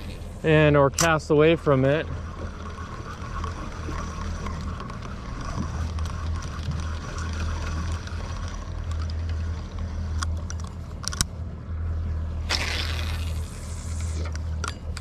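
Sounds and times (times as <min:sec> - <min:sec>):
outboard engines idling: 0:00.0 - 0:15.0.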